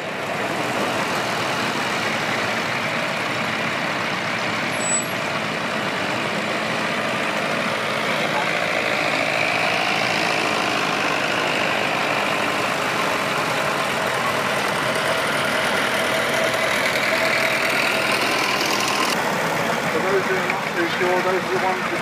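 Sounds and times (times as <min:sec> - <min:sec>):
tractor engines running: 0:00.0 - 0:22.0.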